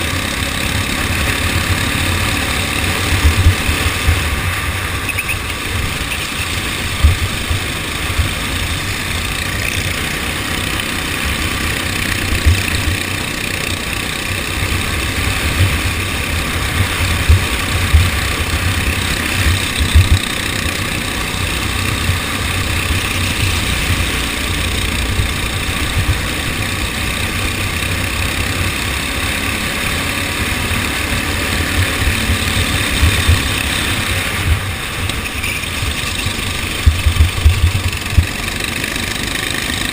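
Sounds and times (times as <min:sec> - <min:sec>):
go-kart engine running: 0:00.0 - 0:39.9
sharp bumps: 0:01.5 - 0:26.5, 0:31.4 - 0:39.9.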